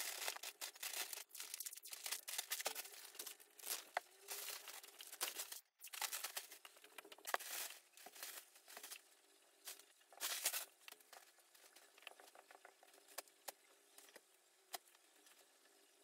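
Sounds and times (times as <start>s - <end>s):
crinkly material rustling: 0.0s - 13.2s.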